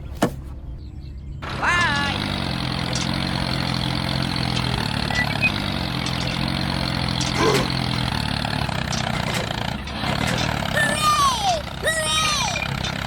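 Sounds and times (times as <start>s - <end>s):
engine idling drone: 0.6s - 13.0s.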